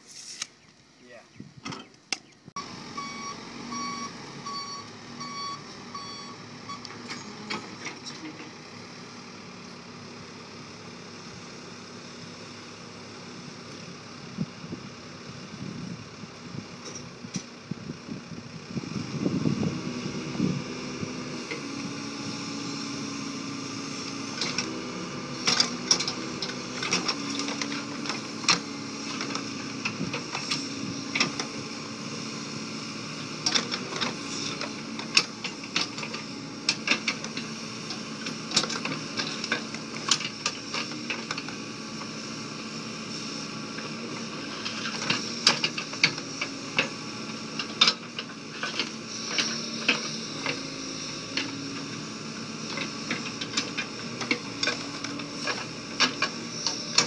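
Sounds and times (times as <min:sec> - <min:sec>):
diesel engine under load: 0:00.7 - 0:57.0.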